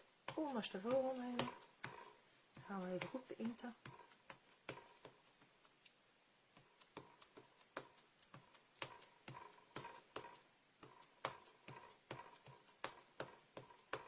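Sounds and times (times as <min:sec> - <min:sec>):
ink pad tapping on stamp: 0:00.3 - 0:05.2, 0:06.8 - 0:14.0.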